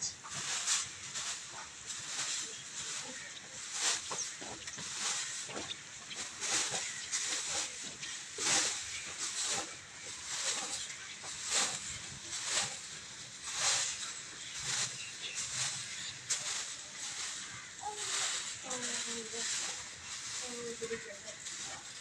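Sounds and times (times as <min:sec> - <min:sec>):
broom sweeping earthen floor: 0:00.0 - 0:22.0.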